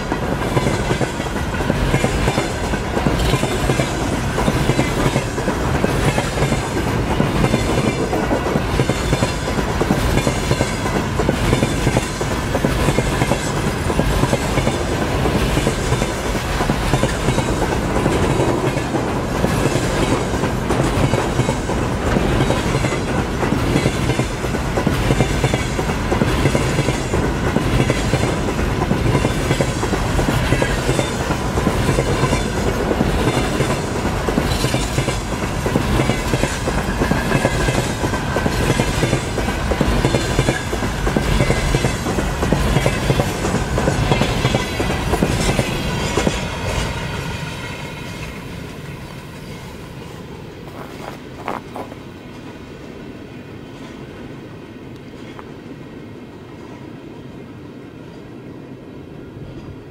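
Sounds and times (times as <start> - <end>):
train passing at speed: 0.0 - 59.9.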